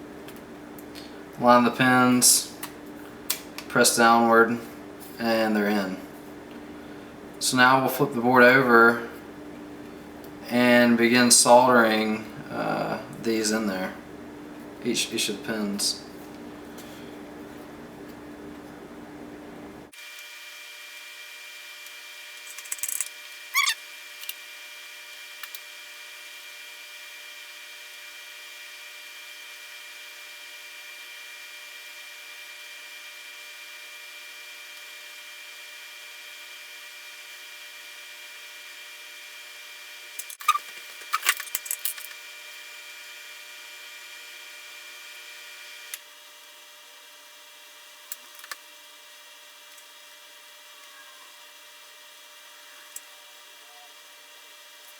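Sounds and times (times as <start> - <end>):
steady electrical hum: 0.0 - 54.9.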